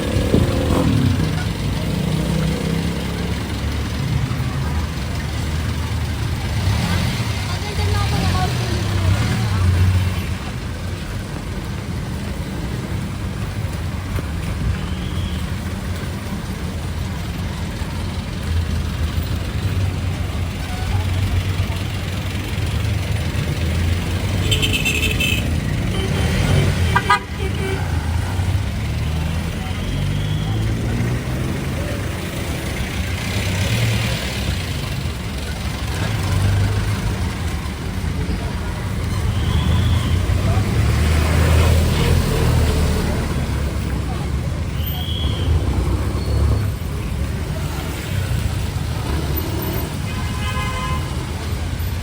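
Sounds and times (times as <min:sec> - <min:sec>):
street noise: 0:00.0 - 0:52.0
vehicle engines idling: 0:00.0 - 0:52.0.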